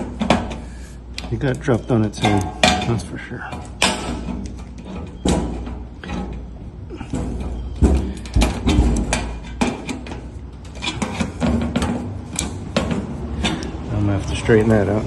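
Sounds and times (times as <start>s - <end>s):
metal clanks and knocks: 0.0s - 15.0s.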